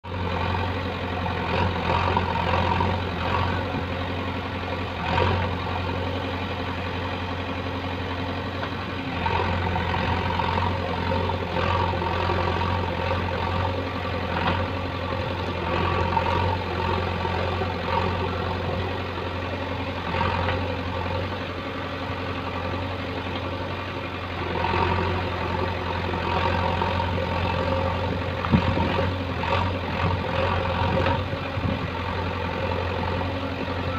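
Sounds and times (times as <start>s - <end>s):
diesel engine under hydraulic load: 0.1s - 33.9s.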